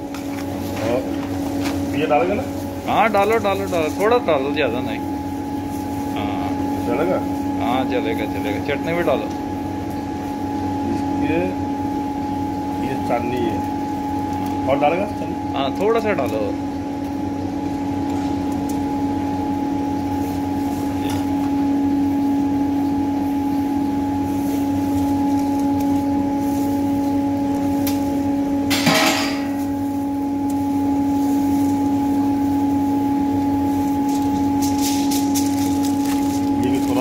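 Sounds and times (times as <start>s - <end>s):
steady machine hum with tones: 0.0s - 37.0s.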